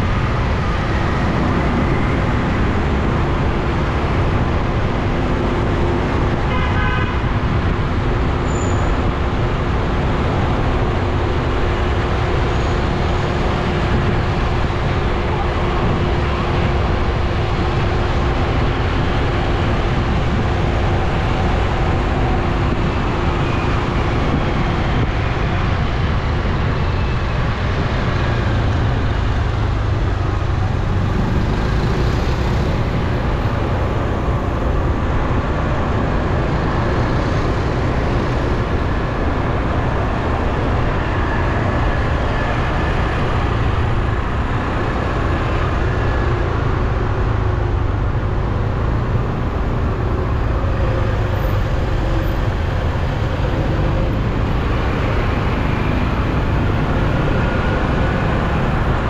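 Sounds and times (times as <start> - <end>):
car engines: 0.0 - 59.0.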